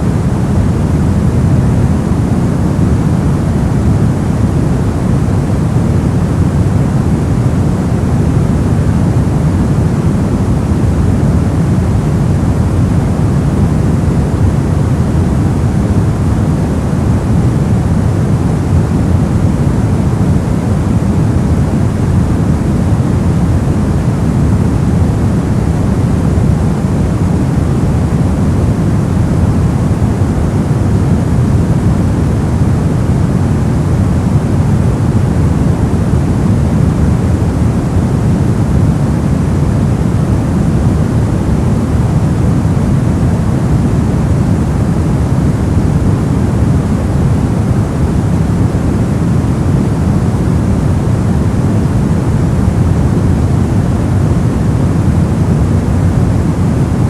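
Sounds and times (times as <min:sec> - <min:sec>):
white noise rush: 0:00.0 - 0:57.0.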